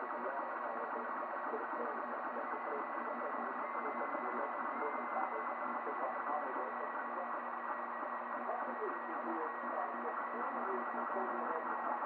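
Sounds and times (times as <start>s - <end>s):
printer fans and motors whirring: 0.0s - 12.0s.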